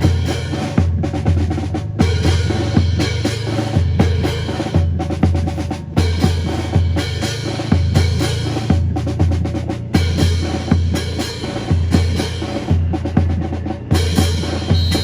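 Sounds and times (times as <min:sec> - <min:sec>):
drum-kit beat: 0:00.0 - 0:15.0
pulsing bass line: 0:00.0 - 0:15.0.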